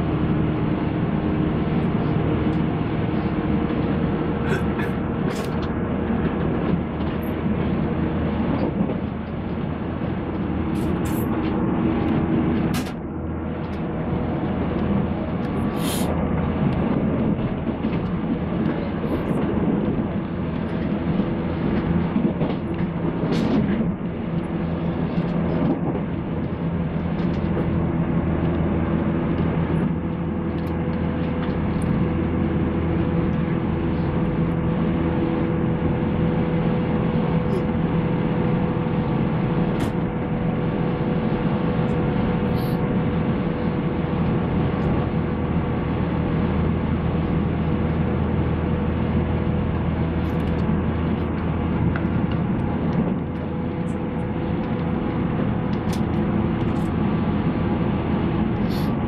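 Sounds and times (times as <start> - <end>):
traction motor hum: 0.0 - 59.0
wheels rumbling on rails: 0.0 - 59.0.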